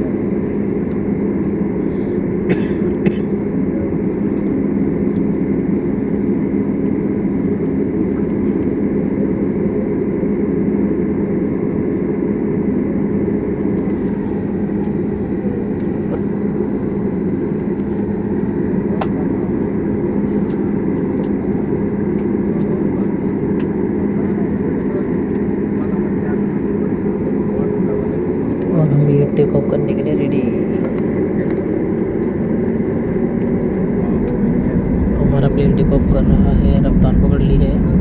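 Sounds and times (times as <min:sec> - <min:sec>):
jet engines droning in cabin: 0:00.0 - 0:38.0.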